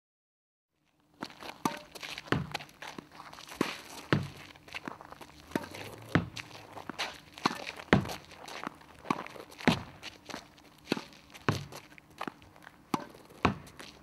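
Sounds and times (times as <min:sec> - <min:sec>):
tennis balls hit with rackets: 0:01.5 - 0:02.7, 0:03.5 - 0:14.0
tennis balls bouncing: 0:01.5 - 0:14.0.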